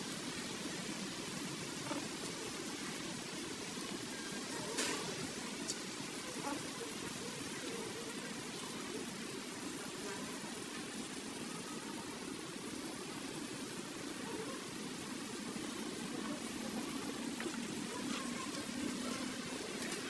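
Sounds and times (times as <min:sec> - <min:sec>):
steady hissing noise: 0:00.0 - 0:20.0.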